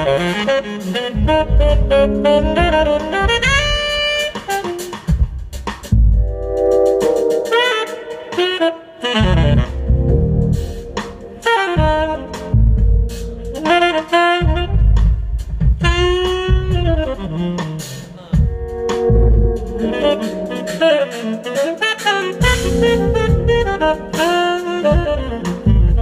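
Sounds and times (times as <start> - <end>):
bass: 0.0 - 7.4, 9.2 - 20.8, 22.4 - 26.0
drums: 0.0 - 26.0
tenor saxophone jazz solo: 0.0 - 26.0.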